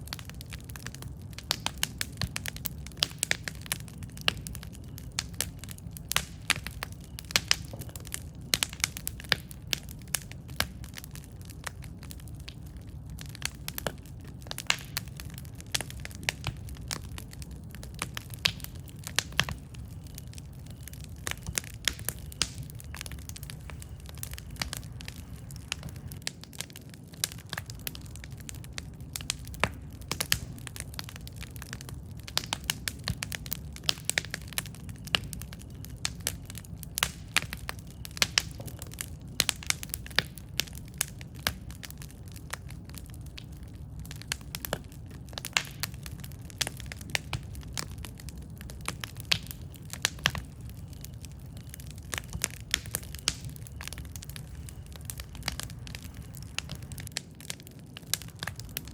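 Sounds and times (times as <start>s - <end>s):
campfire crackles and pops: 0.0s - 58.9s
low rumble of flames: 0.0s - 58.9s.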